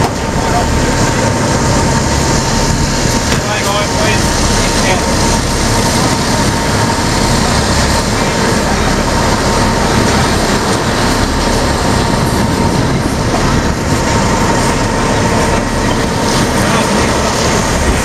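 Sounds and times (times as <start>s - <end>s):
engine rumble: 0.0s - 18.0s
thin steady whine: 0.0s - 18.0s.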